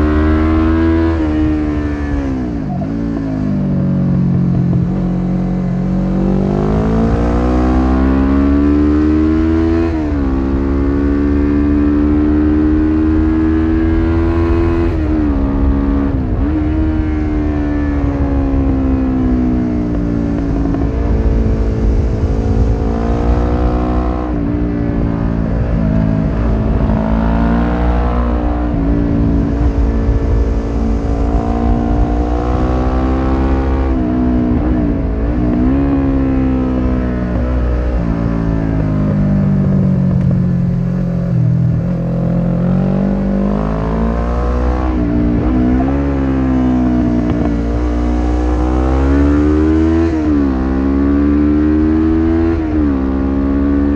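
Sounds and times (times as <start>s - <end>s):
motorcycle engine revving: 0.0s - 53.9s
wind rumble on microphone: 0.0s - 53.9s.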